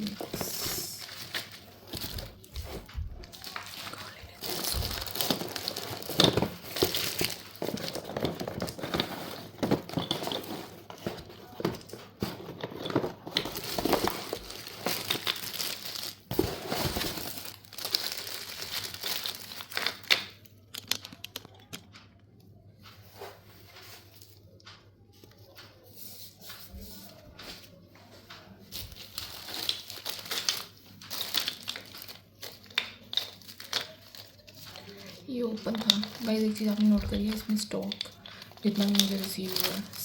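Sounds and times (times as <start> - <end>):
packaging crinkling and tearing: 0.0 - 21.9, 28.8 - 40.0.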